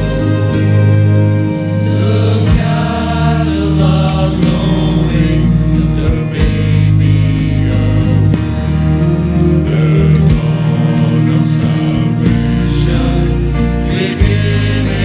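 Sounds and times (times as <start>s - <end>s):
choir singing: 0.0s - 15.0s
sustained instrumental accompaniment: 0.0s - 15.0s.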